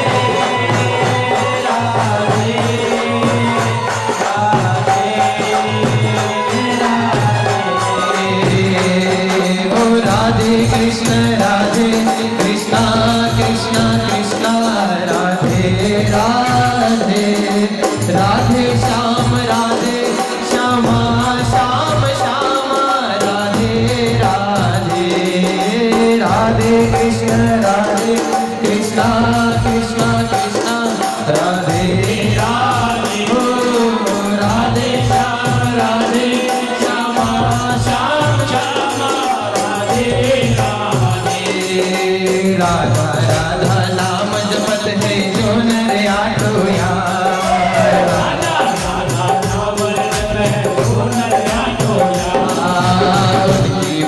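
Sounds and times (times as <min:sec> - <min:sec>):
devotional song with percussion: 0:00.0 - 0:54.0.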